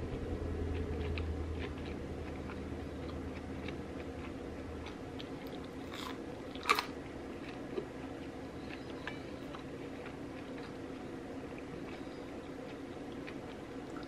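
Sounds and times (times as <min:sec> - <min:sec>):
low hum: 0:00.0 - 0:14.0
close chewing: 0:00.8 - 0:14.0.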